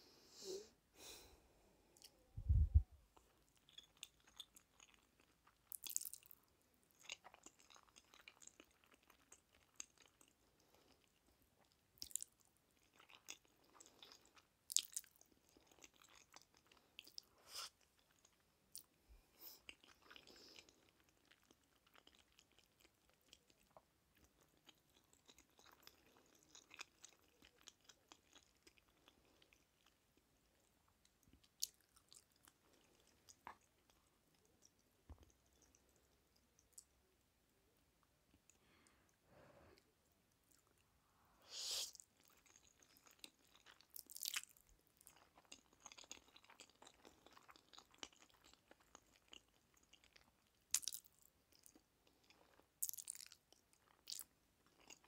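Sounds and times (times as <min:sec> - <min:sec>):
person chewing noodles: 0:03.2 - 0:37.2, 0:39.8 - 0:41.0, 0:41.6 - 0:55.0.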